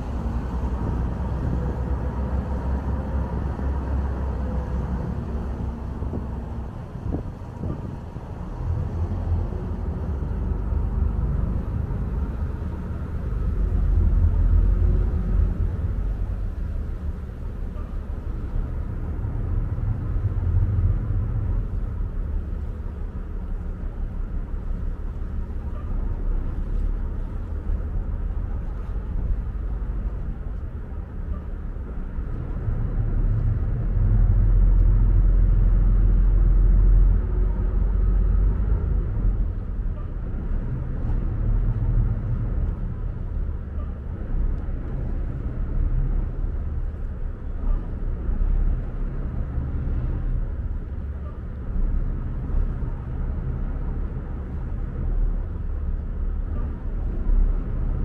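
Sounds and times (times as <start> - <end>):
ferry engine rumble: 0.0 - 58.0.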